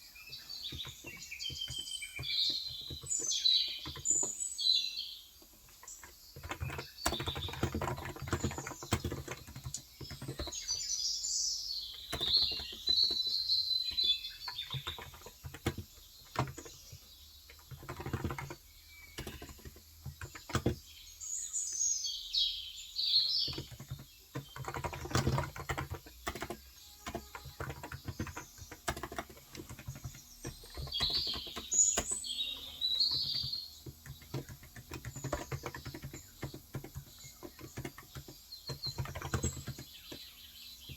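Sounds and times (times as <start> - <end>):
birds chirping: 0.0 - 40.9
keyboard typing: 0.3 - 4.5, 5.4 - 11.0, 11.8 - 21.0, 23.2 - 40.9.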